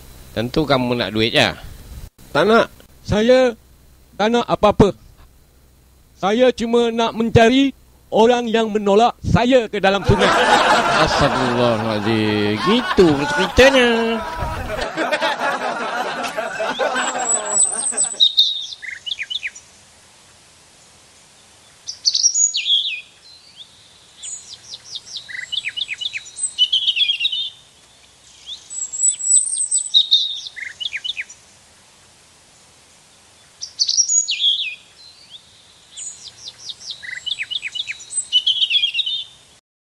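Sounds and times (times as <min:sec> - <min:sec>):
songbirds singing: 0:02.9 - 0:39.6.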